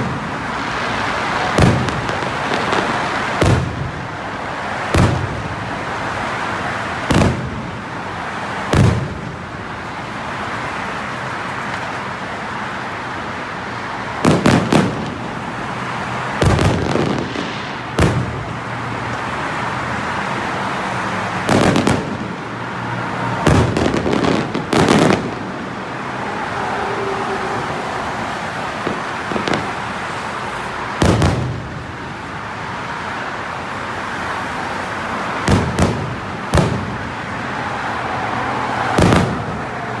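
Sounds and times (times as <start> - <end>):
steady background noise: 0.0 - 40.0.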